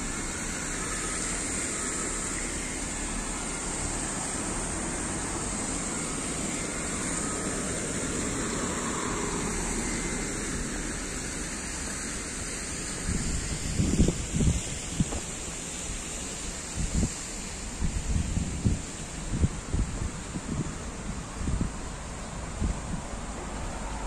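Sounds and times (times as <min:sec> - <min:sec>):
steady road traffic: 0:00.0 - 0:24.0.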